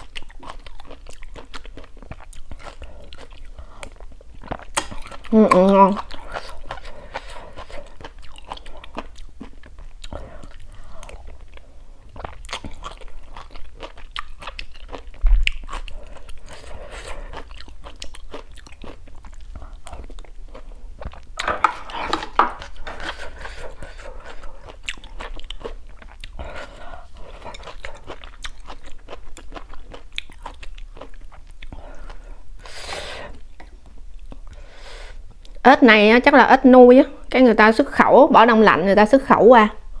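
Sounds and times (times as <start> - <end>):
person chewing crunchy food: 0.0 - 35.6.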